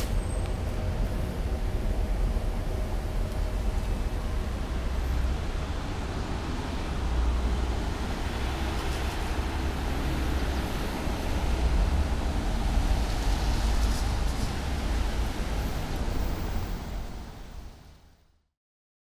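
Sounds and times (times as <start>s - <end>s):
street traffic rumble: 0.0s - 18.3s.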